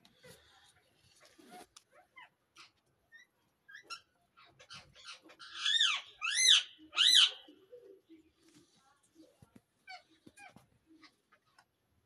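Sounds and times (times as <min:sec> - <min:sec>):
cockatiels chirping softly: 0:00.1 - 0:11.8.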